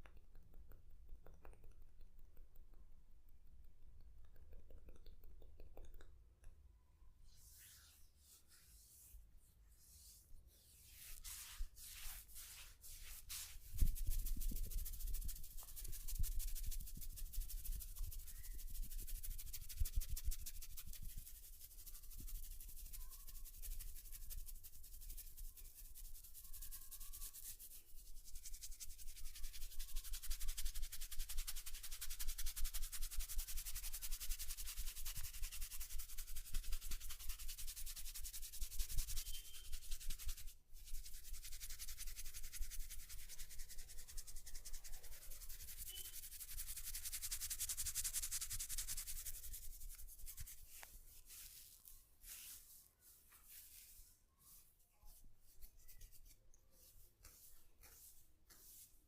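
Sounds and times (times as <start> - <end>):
scratchy rubbing through hair: 7.3 - 59.0.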